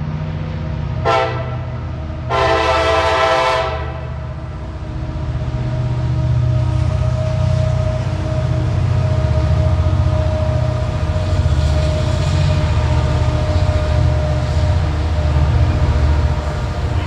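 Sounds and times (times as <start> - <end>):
locomotive engine rumble: 0.0 - 17.0.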